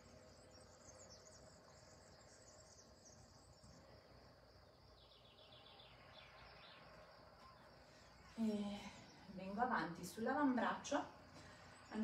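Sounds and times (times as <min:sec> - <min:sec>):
faint chirps: 0:00.0 - 0:10.2
faint insect chirring: 0:00.0 - 0:12.0.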